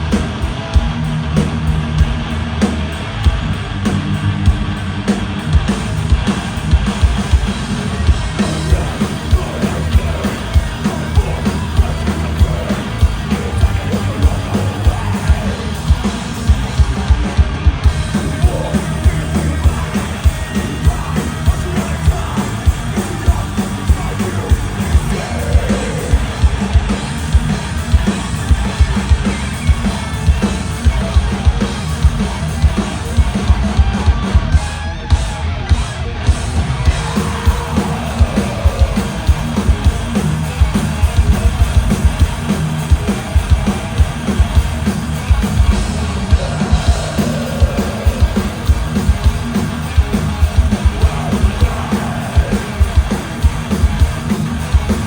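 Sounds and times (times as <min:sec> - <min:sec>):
distorted electric guitars: 0:00.0 - 0:55.0
pounding drum kit: 0:00.0 - 0:55.0.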